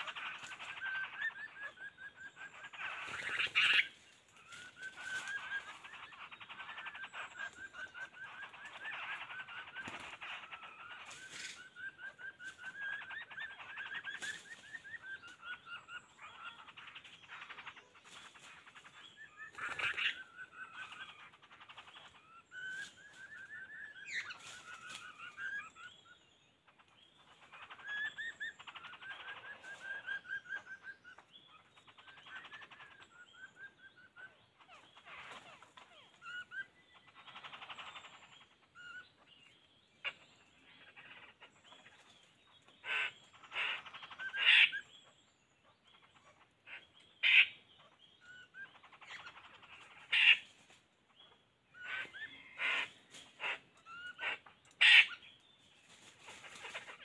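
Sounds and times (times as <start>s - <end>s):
loud sharp bird calls: 0.0s - 57.0s
small birds chirping and trilling: 0.0s - 57.0s.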